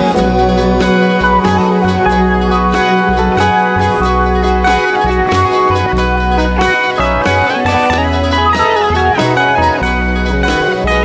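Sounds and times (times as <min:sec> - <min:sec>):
electric guitar melody: 0:00.0 - 0:11.0
keyboard chords: 0:00.0 - 0:11.0
low bass notes: 0:00.0 - 0:11.0.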